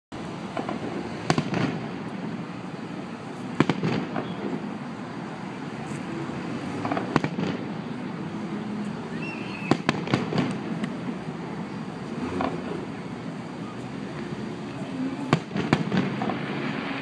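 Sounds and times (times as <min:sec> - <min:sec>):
background noise: 0:00.1 - 0:17.0.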